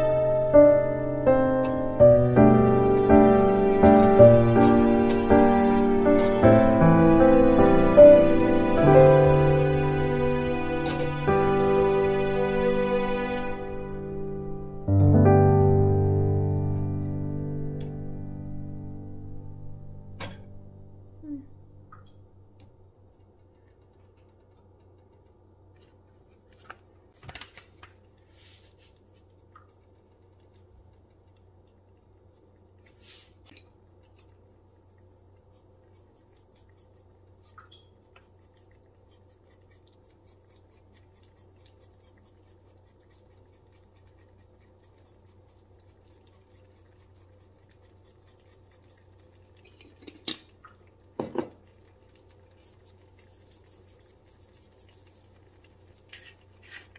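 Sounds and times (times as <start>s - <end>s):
faint sizzling in a pan: 0.0s - 24.2s, 27.9s - 56.9s.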